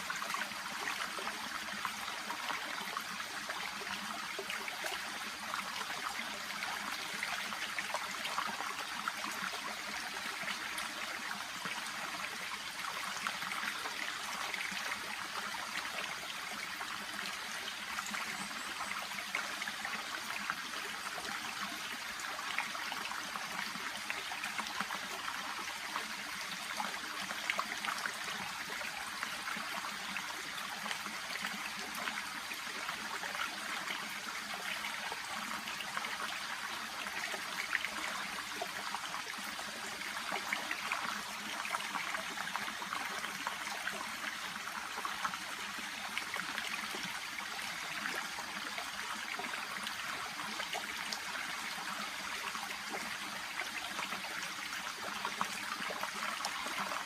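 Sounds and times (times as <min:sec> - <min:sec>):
brook babbling: 0:00.0 - 0:57.0.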